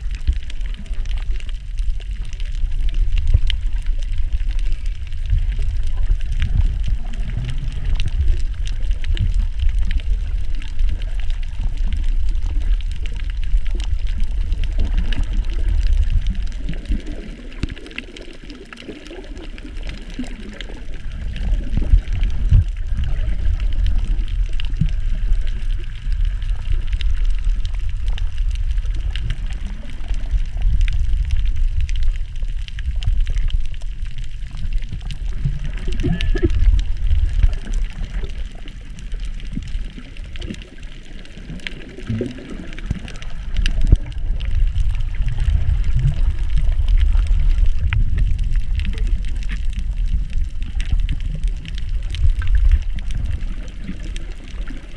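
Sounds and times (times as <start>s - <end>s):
muffled underwater water rushing: 0.0s - 54.9s.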